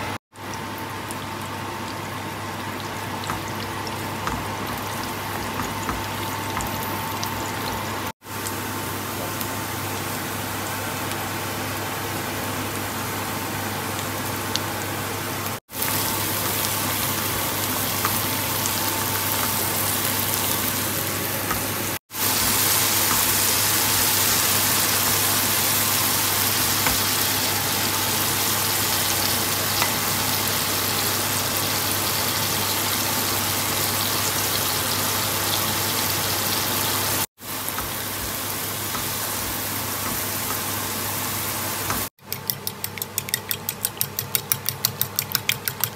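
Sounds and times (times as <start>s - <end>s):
oil sizzling in a wok: 0.3s - 45.9s.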